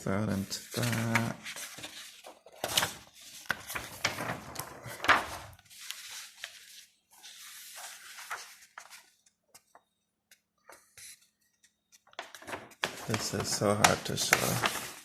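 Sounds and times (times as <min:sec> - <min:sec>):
paper rustling and crinkling: 0:00.3 - 0:09.8, 0:12.0 - 0:15.0.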